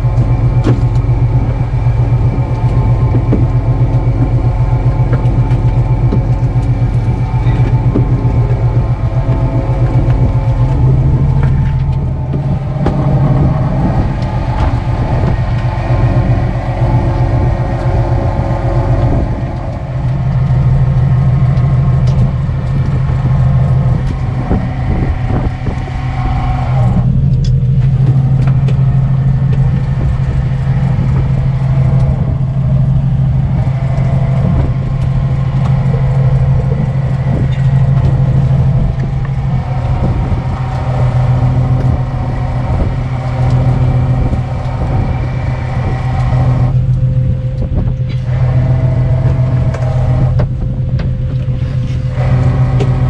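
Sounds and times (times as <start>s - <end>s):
boat engine humming: 0.0s - 53.0s
gear knocking and clattering: 0.0s - 53.0s.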